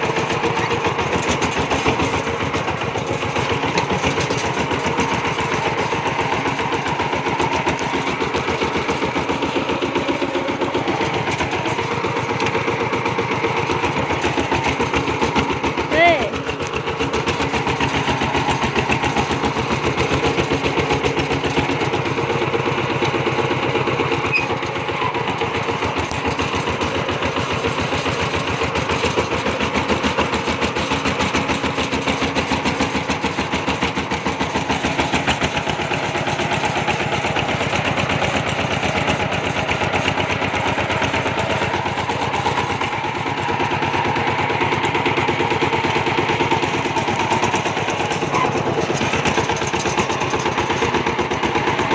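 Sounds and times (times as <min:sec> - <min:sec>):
single-cylinder diesel engine running: 0:00.0 - 0:51.9.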